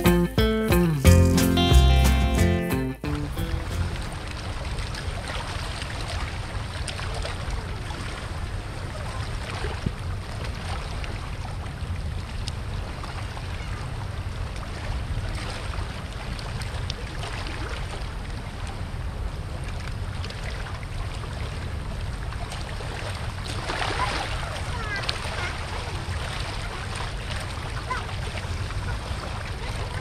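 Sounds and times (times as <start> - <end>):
spillway water rushing: 3.0 - 30.0.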